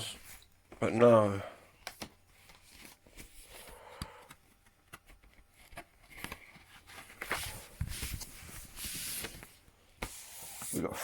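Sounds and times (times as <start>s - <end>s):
paper and card rustling: 1.8s - 11.0s.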